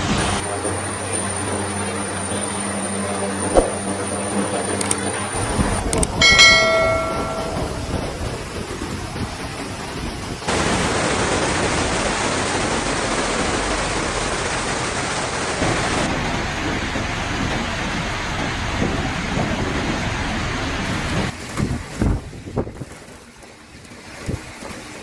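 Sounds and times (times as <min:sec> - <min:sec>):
floodwater rushing: 0:03.5 - 0:04.0, 0:05.4 - 0:25.0.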